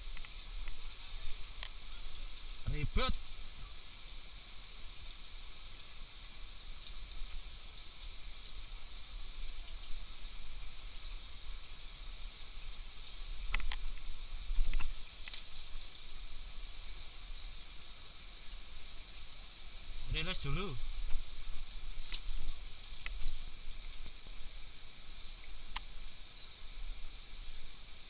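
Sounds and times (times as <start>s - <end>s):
even outdoor hiss: 0.0s - 28.0s.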